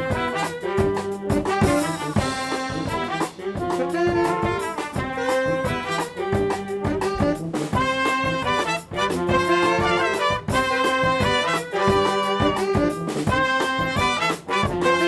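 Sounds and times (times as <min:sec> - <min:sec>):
brass band playing funk groove: 0:00.0 - 0:15.0
drums steady beat: 0:00.0 - 0:15.0.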